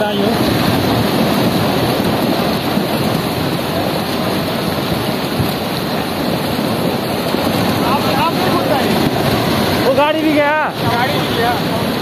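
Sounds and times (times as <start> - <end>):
mudflow rushing: 0.0 - 12.0.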